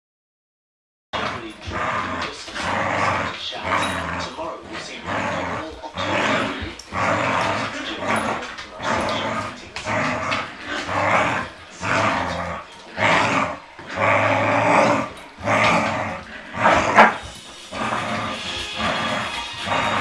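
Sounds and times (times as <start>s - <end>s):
dogs growling in play: 1.2s - 20.0s.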